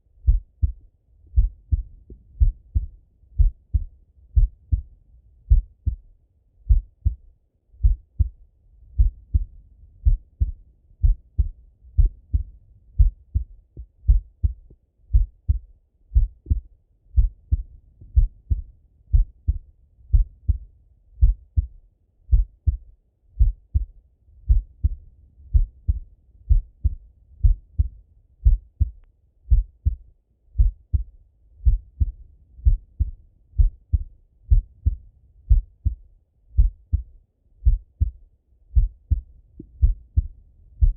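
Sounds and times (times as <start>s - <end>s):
heartbeat through stethoscope: 0.2s - 6.1s, 6.7s - 7.2s, 7.8s - 30.0s, 30.6s - 36.0s, 36.6s - 40.9s.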